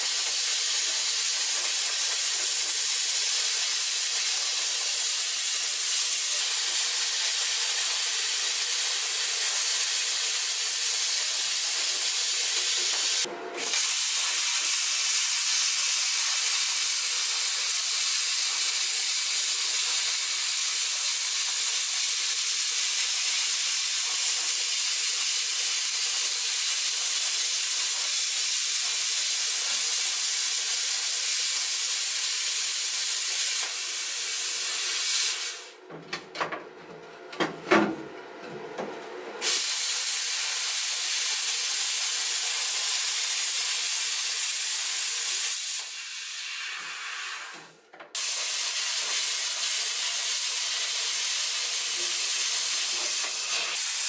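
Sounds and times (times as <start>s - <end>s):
plasma cutter hissing: 0.0s - 35.8s, 39.4s - 54.0s.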